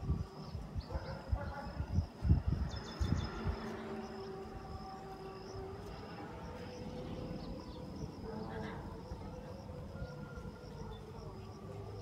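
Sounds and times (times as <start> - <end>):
high-pitched insect call: 0.0 - 12.0.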